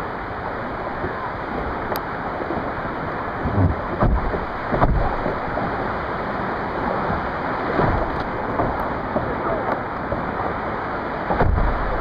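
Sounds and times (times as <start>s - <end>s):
sea water washing against kayak: 0.0s - 12.0s
wind buffeting microphone: 0.9s - 12.0s.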